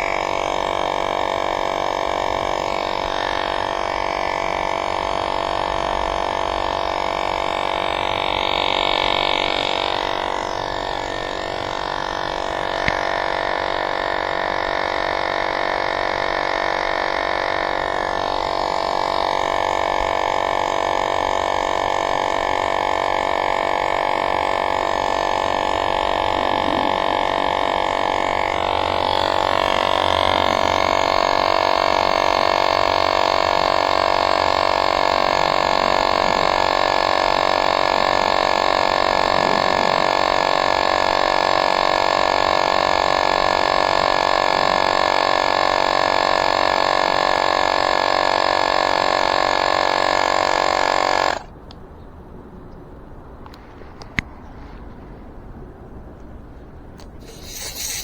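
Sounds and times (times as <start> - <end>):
electric tire inflator humming: 0.0 - 51.6, 57.0 - 58.0.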